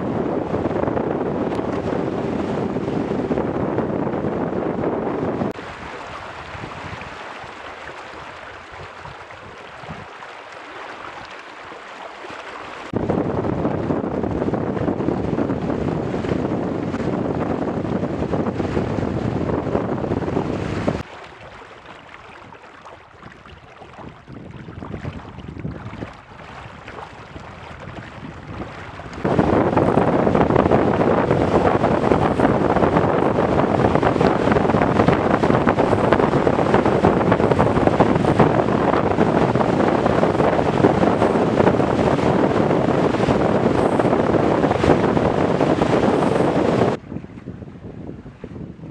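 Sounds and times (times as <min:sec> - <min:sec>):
wind buffeting microphone: 0:00.0 - 0:11.4, 0:12.8 - 0:48.9
water splashing along hull: 0:00.0 - 0:48.9.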